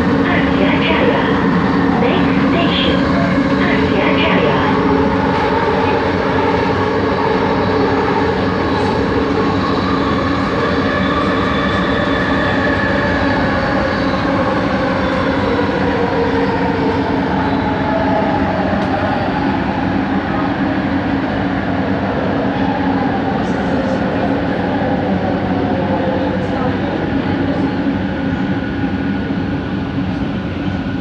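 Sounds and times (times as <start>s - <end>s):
train running rumble: 0.0s - 31.0s.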